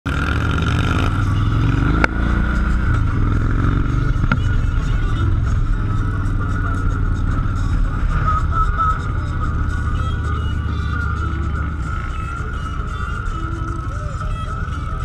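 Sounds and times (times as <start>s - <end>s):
high whine: 0.1s - 15.0s
motorcycle engines rumbling: 0.1s - 15.0s.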